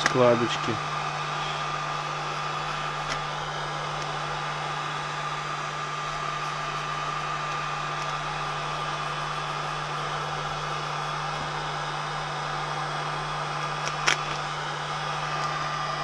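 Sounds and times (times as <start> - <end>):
heat gun blowing with whine: 0.0 - 16.0.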